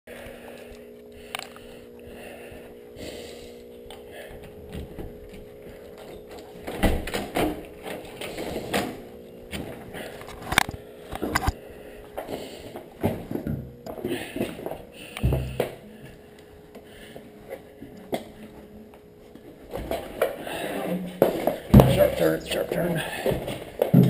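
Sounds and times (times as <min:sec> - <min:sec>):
steady low hum: 0:00.1 - 0:24.0.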